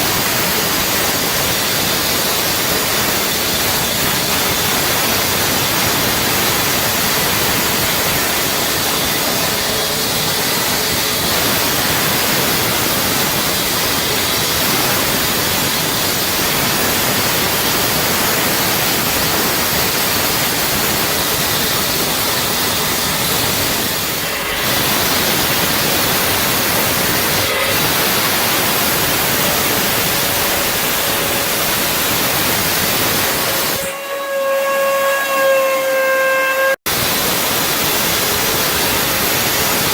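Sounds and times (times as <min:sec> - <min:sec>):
power saw cutting: 0:00.0 - 0:39.9.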